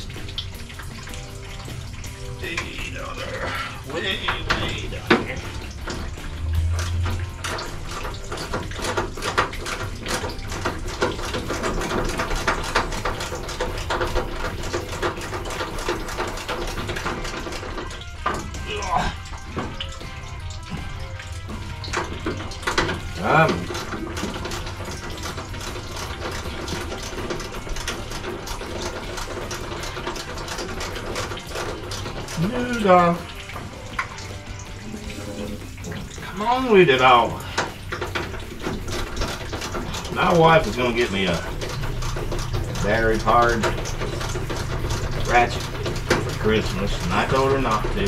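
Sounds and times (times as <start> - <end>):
coolant trickling and splashing: 0.0 - 48.0.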